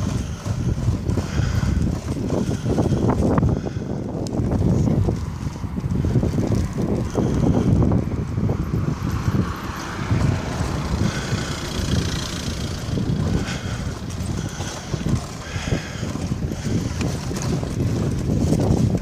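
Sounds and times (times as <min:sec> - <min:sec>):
bicycle wheels rolling on pavement: 0:00.0 - 0:19.0
wind buffeting microphone: 0:00.0 - 0:19.0.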